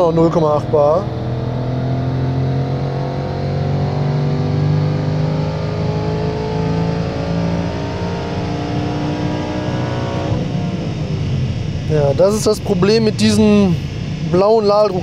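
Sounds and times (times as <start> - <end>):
car engine revving at full throttle: 0.0 - 15.0.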